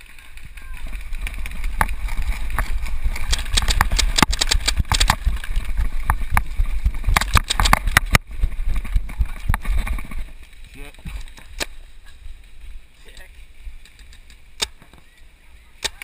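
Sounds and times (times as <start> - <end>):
low rumble: 0.0 - 13.8
running footsteps: 0.0 - 15.2.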